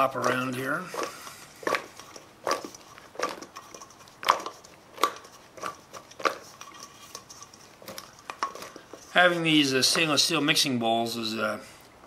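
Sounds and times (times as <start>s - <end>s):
vegetables tossed in a metal bowl: 0.0s - 10.3s.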